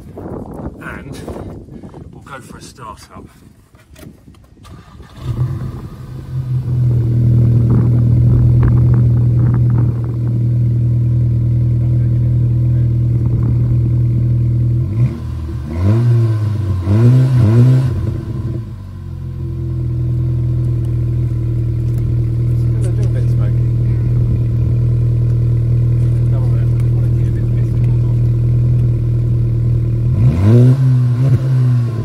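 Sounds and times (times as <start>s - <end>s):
car engine starting and idling: 4.6s - 32.0s
engine revs blipped: 5.0s - 32.0s.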